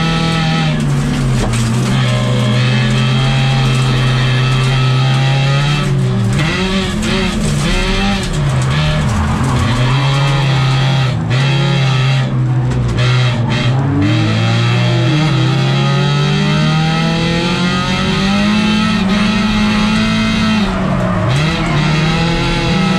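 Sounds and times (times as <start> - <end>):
car engine revving hard: 0.0 - 22.9.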